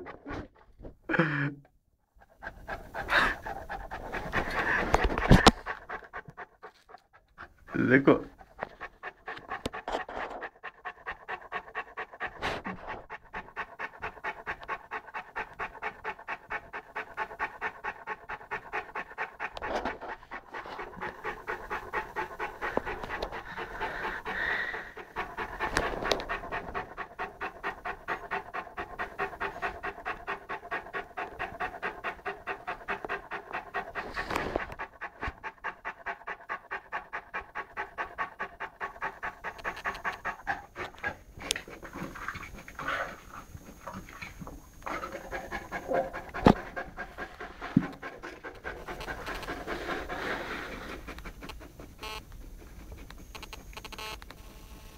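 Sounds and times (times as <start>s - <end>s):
puppy panting: 2.2s - 54.9s.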